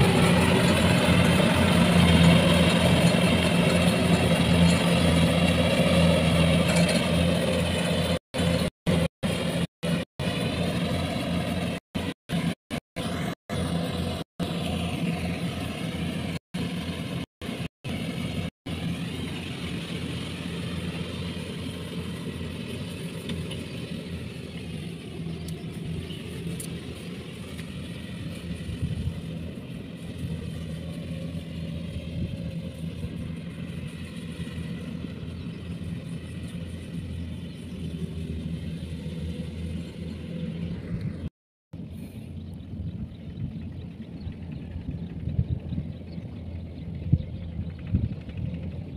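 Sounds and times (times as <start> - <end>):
combine harvester diesel engine: 0.0 - 48.9.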